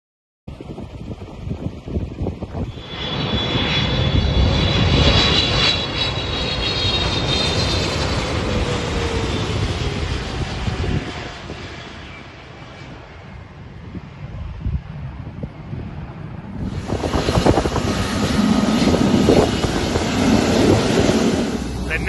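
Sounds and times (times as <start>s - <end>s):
jet engines whining: 0.9s - 22.0s.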